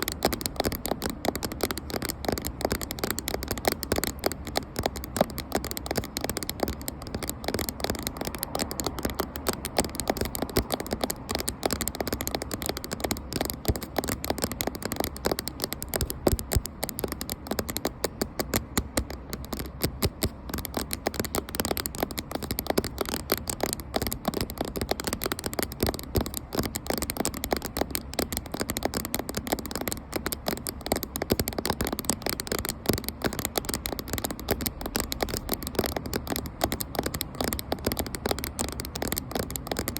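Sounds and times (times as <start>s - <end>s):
fast tapping on a camera: 0.0s - 39.9s.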